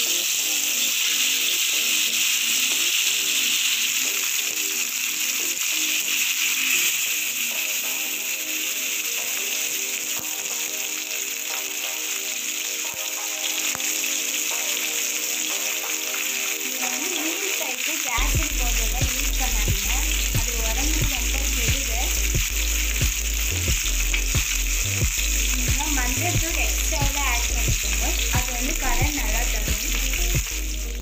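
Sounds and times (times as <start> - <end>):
faint background music: 0.0 - 31.0
hot oil sizzling: 0.0 - 31.0.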